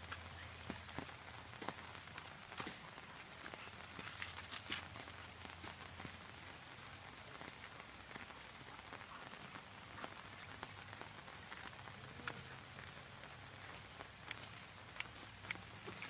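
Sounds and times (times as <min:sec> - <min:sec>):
dog gnawing coconut husk: 0:00.1 - 0:16.0.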